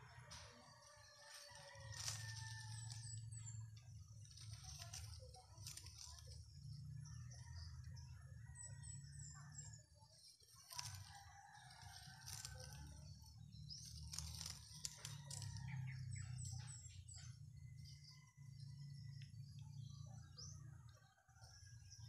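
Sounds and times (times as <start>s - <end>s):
clicks and rustles of wire and leaves: 0.0s - 22.0s
small birds chirping: 0.0s - 22.0s.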